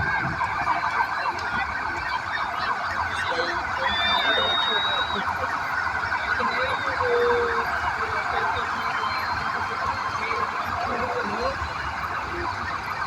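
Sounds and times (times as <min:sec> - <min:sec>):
police sirens wailing: 0:00.0 - 0:13.0.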